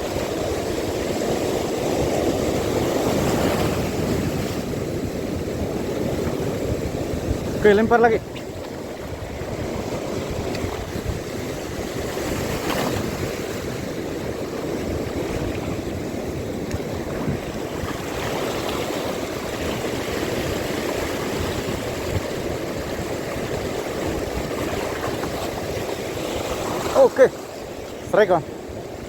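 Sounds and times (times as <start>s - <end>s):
lapping sea water: 0.0s - 29.0s
wind on microphone: 0.0s - 29.0s.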